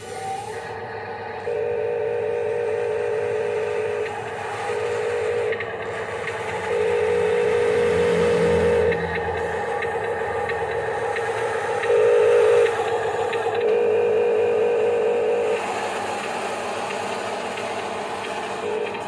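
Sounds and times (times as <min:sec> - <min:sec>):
electric motor and pump whine: 0:00.0 - 0:19.0.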